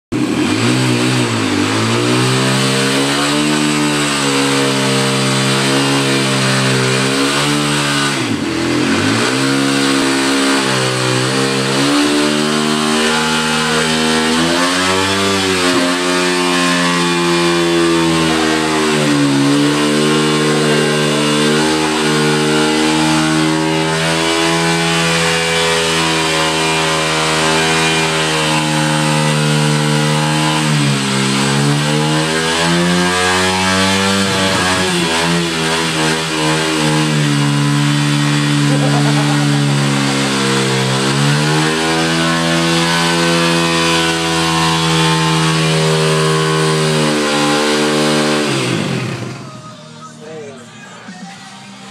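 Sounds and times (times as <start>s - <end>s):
dirt bike engine revving: 0.0s - 51.9s
rear tyre spinning: 0.1s - 49.5s.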